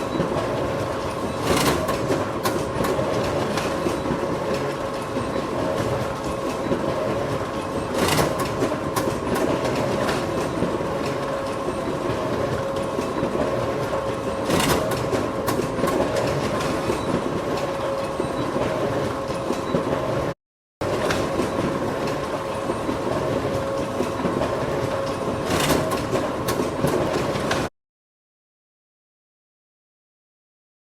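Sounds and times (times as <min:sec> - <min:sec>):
photocopier running: 0:00.0 - 0:27.7.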